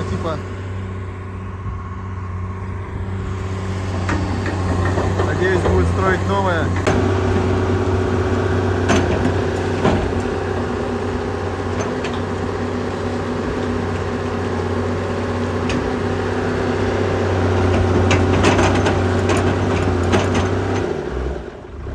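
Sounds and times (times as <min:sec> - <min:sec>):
engine droning: 0:00.0 - 0:21.9.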